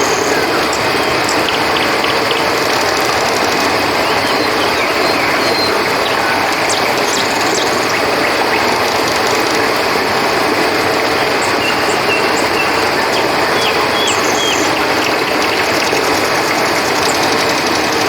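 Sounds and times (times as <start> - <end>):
crickets trilling: 0.0 - 18.0
river water flowing: 0.0 - 18.0.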